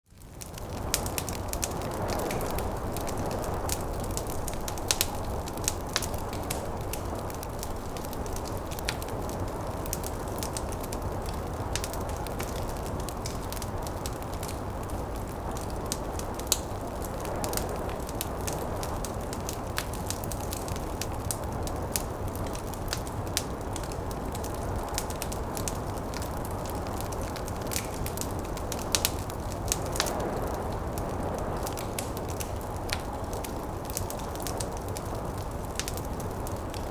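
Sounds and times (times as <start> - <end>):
wood fire crackling and popping: 0.1 - 36.9.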